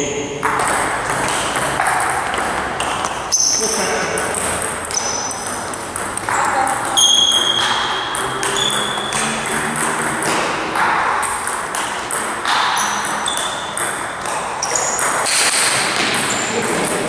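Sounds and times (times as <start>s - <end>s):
table tennis ball clicking: 0.4s - 17.0s.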